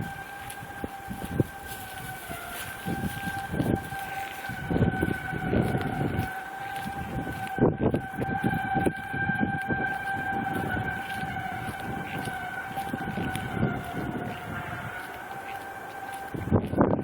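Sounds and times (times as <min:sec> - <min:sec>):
distant droning tone: 0:00.0 - 0:17.0
microphone rumbling: 0:00.0 - 0:17.0.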